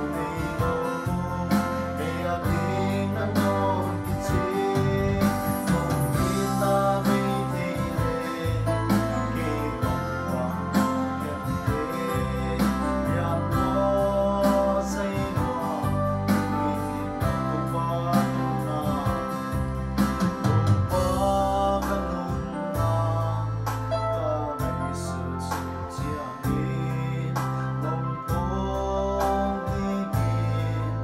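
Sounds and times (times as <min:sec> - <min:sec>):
electronic keyboard accompaniment: 0:00.0 - 0:31.0
man singing a hymn: 0:00.0 - 0:31.0.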